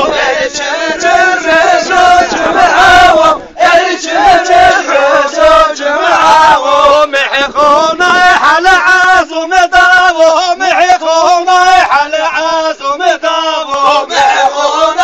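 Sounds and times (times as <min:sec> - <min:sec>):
man singing a folk song: 0:00.0 - 0:15.0.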